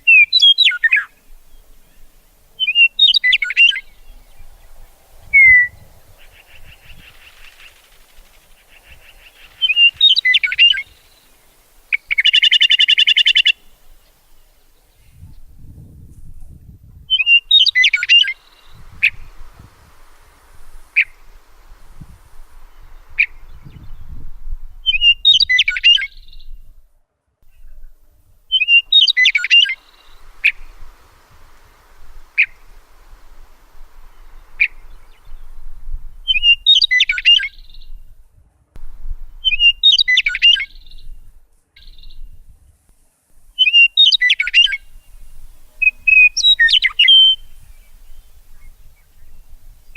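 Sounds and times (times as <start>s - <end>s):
birds chirping: 0.0s - 15.5s, 17.1s - 26.8s, 27.5s - 38.1s, 39.1s - 42.4s, 43.6s - 49.9s.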